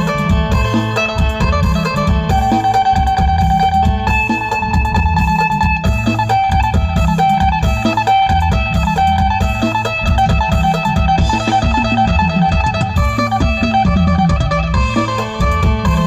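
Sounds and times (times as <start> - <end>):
plucked lute notes: 0.0 - 16.0
steady low beat: 0.0 - 16.0.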